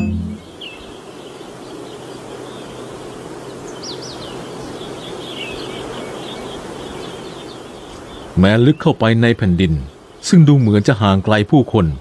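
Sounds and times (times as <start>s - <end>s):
outdoor background rush: 0.0s - 12.0s
small birds chirping and twittering: 0.0s - 12.0s.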